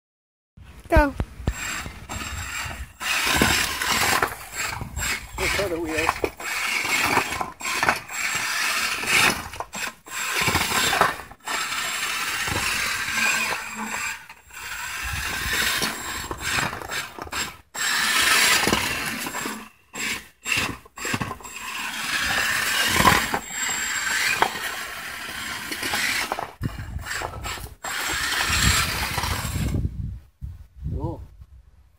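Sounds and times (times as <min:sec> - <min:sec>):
robot drive motors whirring: 0:01.0 - 0:29.9.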